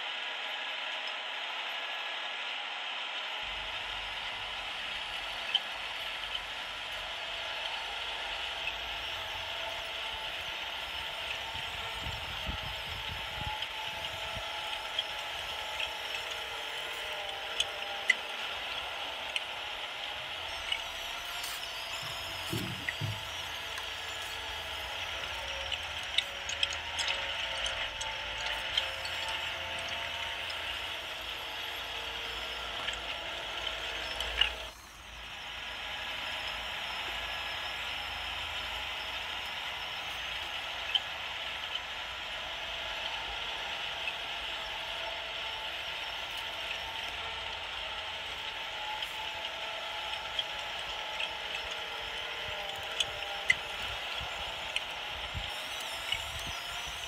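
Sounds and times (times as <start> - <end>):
toy electric motors whirring: 3.4 - 57.0.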